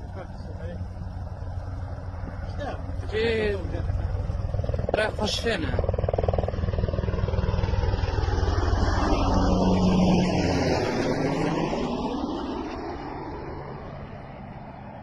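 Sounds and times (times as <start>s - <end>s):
vehicle passing with low pulsing: 0.0s - 15.0s.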